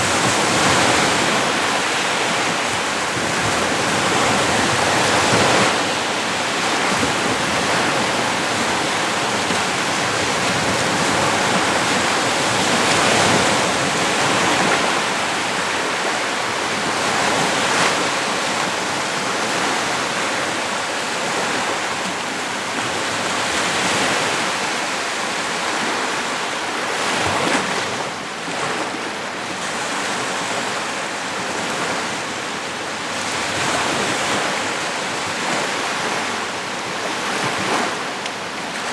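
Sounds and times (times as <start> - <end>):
small waves washing ashore: 0.0 - 38.9.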